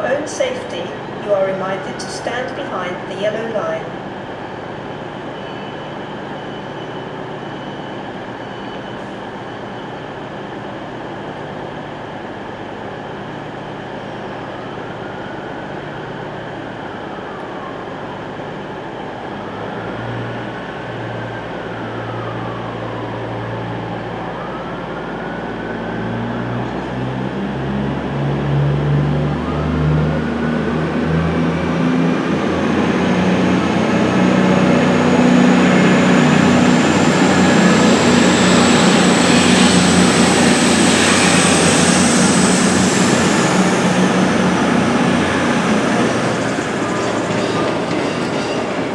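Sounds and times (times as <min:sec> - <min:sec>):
diesel train engine: 0:00.0 - 0:48.9
station background noise: 0:00.0 - 0:48.9.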